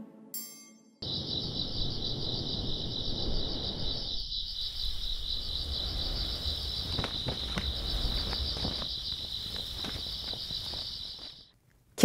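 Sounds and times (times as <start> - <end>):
low rumble: 1.0 - 11.1
insects chirring: 1.0 - 11.5.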